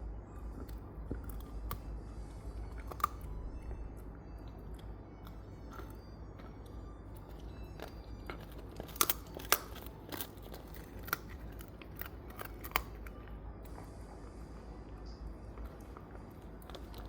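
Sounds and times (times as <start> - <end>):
dog gnawing on bone: 0.3 - 14.6, 15.4 - 17.0.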